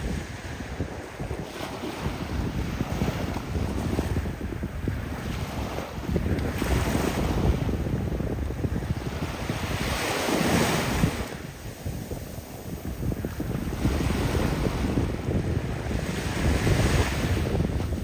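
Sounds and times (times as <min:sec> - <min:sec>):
waves washing onto beach: 0:00.0 - 0:18.0
wind buffeting microphone: 0:00.0 - 0:18.0.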